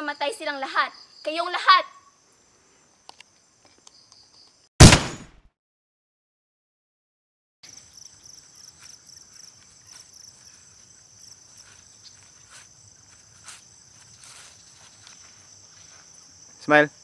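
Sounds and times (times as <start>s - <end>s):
crickets chirping: 0.0s - 4.7s, 7.6s - 17.0s.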